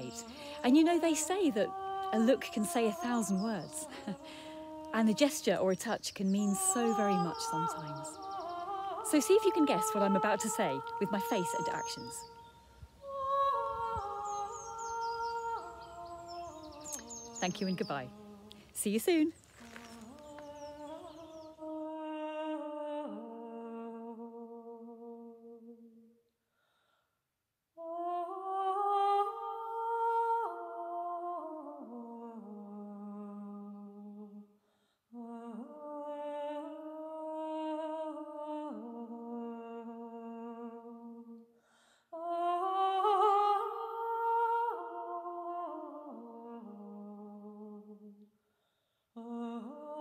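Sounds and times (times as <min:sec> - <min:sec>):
woman singing wordless melody: 0:00.0 - 0:26.2, 0:27.8 - 0:48.3, 0:49.1 - 0:50.0.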